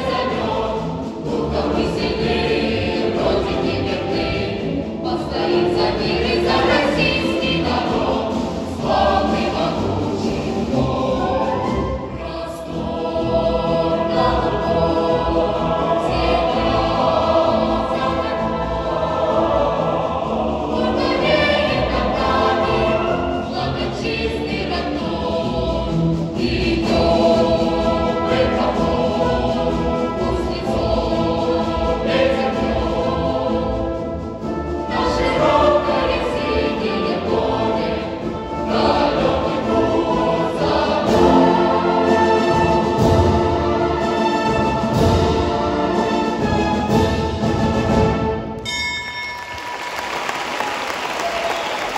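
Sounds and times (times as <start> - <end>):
choir singing a march: 0.0 - 48.6
concert band brass and winds: 0.0 - 48.6.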